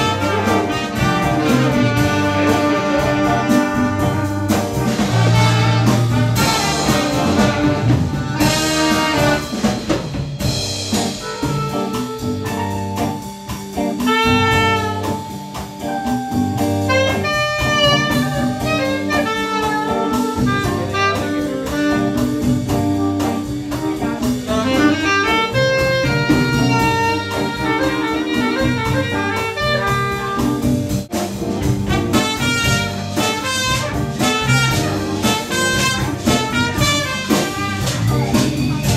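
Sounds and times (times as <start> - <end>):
saxophone and trumpet melody: 0.0 - 9.9, 10.5 - 38.9
drum kit: 0.0 - 38.9.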